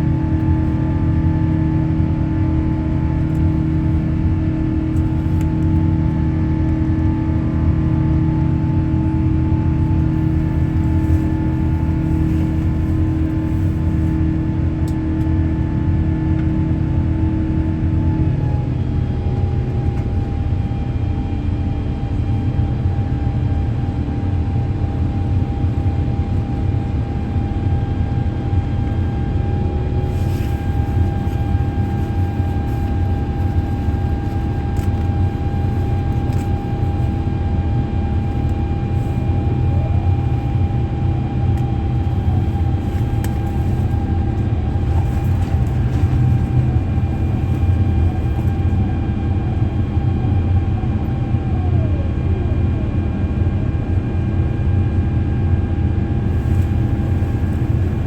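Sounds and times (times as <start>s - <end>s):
jet engines roaring in cabin: 0.0s - 58.0s
steady engine whine: 0.0s - 58.0s.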